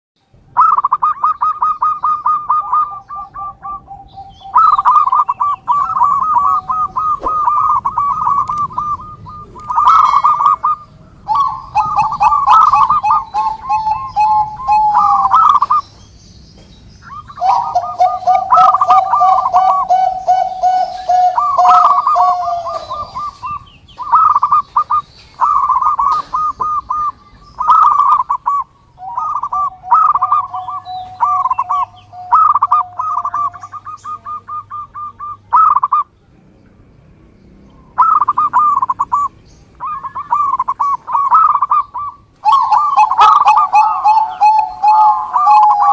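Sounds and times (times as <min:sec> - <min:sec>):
doves cooing: 0:00.4 - 0:36.8, 0:37.6 - 0:45.9.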